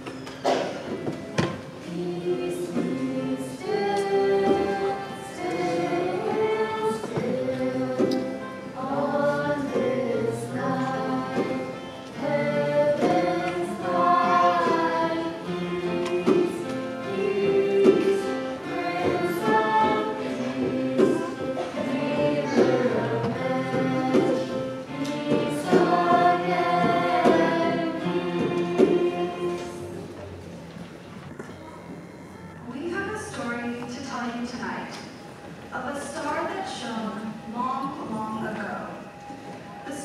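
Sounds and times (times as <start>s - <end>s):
choir singing held notes: 0.0s - 32.8s.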